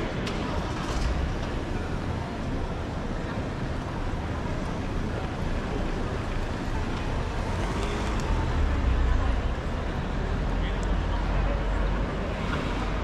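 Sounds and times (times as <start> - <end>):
faint murmur of voices: 0.0 - 13.0
low street rumble: 0.0 - 13.0.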